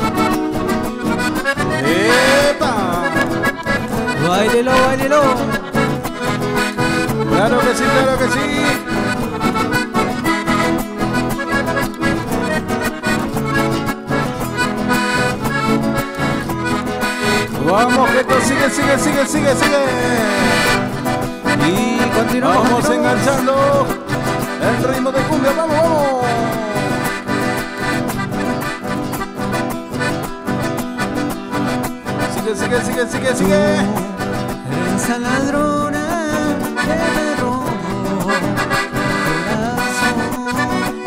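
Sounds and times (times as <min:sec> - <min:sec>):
acoustic guitars strumming: 0:00.0 - 0:41.0
piano accordion playing: 0:00.0 - 0:41.0.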